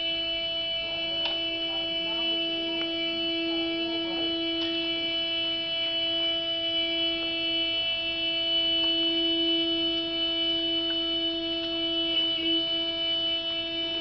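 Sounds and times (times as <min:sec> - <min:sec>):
continuous horn tone: 0:00.0 - 0:14.0.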